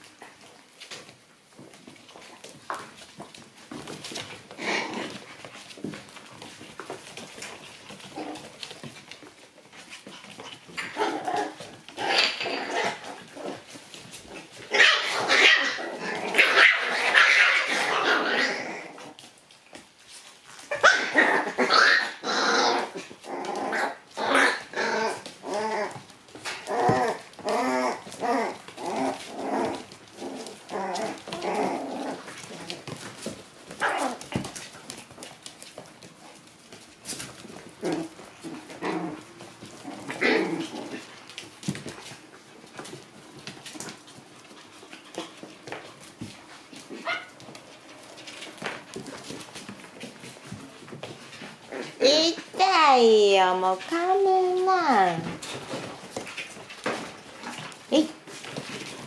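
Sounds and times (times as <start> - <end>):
puppies growling and yapping: 0.0 - 52.7, 53.7 - 59.0.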